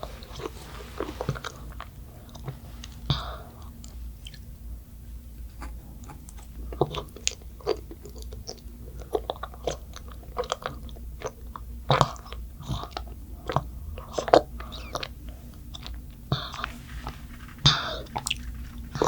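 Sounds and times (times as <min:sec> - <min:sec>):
wet sticky chewing: 0:00.0 - 0:04.7, 0:05.4 - 0:19.0.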